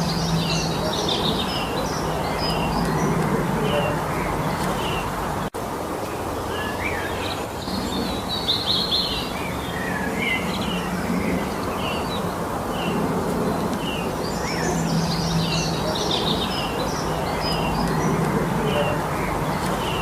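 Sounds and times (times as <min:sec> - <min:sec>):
songbirds chirping and singing: 0:00.0 - 0:05.5, 0:06.4 - 0:20.0
steady rushing background noise: 0:00.0 - 0:20.0.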